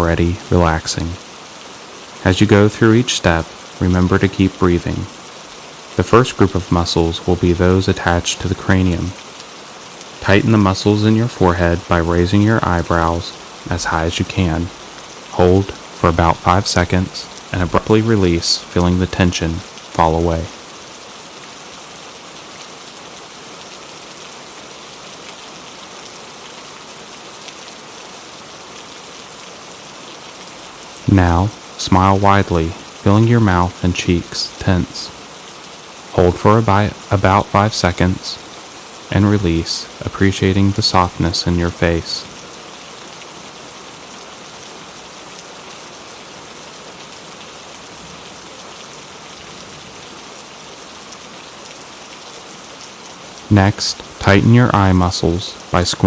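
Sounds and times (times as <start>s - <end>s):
gentle rain hiss: 0.0s - 56.0s.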